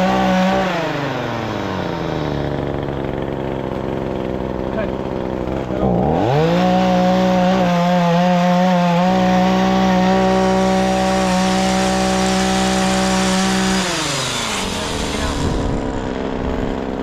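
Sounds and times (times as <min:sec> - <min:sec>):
small engine revving: 0:00.0 - 0:17.0.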